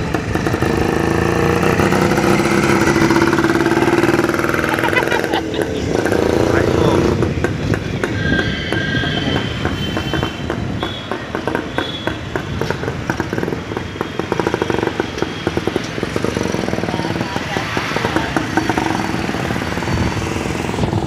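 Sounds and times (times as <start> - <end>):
motorcycle engine popping exhaust: 0.0 - 19.6
street traffic: 0.0 - 21.0.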